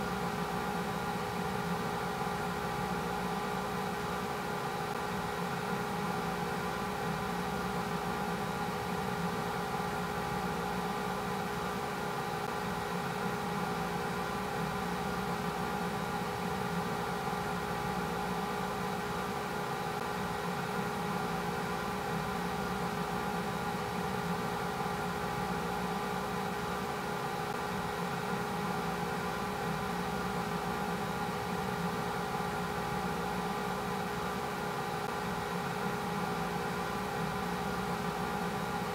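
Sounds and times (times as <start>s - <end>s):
machine whirring hum: 0.0s - 38.9s.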